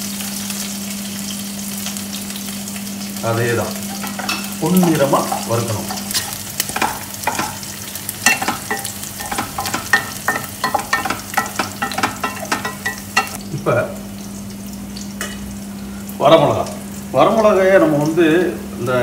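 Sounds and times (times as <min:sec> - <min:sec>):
shallots sizzling in hot oil: 0:00.0 - 0:19.0.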